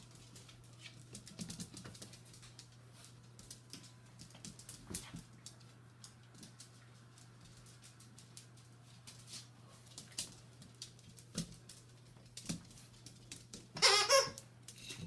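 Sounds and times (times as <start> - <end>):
puppy claws clicking on tiles: 0.0 - 15.0.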